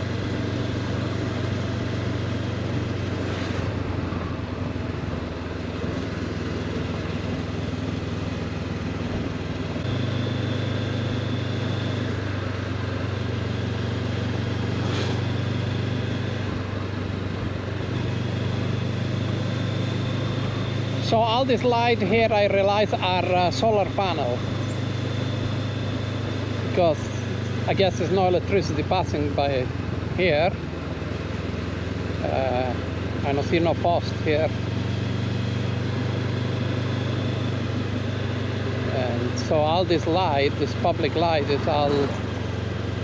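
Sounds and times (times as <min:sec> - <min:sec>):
motorcycle engine running: 0:00.0 - 0:43.0
wind and road noise: 0:00.0 - 0:43.0.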